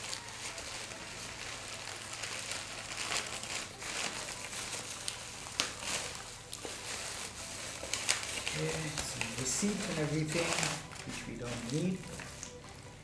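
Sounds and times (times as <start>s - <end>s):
cardboard packaging being torn: 0.0s - 12.6s.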